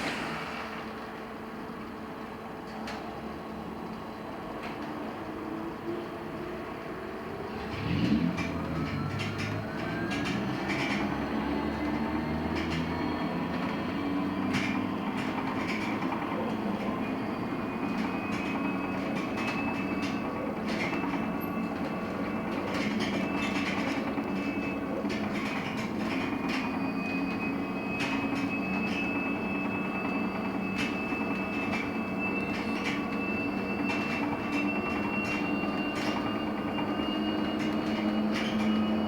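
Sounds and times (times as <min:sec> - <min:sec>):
road and tyre noise: 0:00.0 - 0:39.0.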